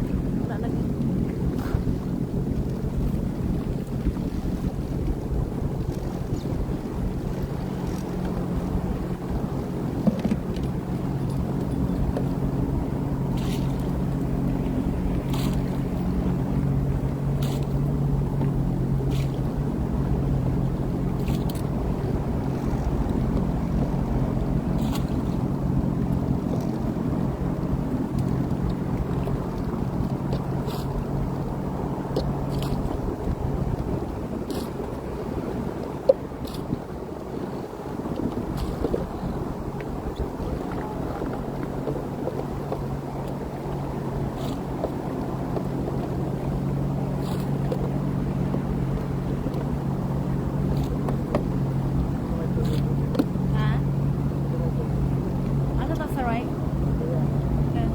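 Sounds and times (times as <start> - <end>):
rushing water: 0.0 - 57.9
watercraft engine humming: 0.0 - 57.9
wind: 0.0 - 57.9.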